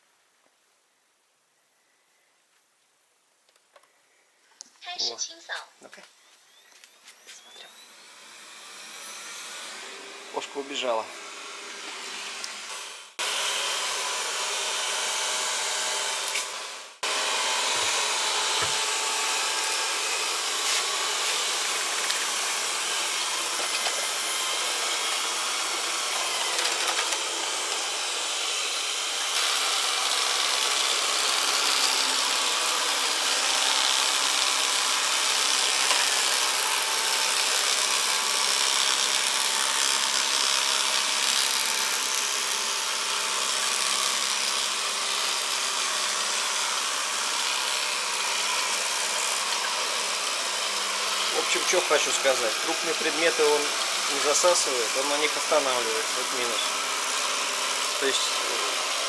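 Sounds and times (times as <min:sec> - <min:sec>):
robot vacuum cleaner whirring: 0:04.8 - 0:59.0.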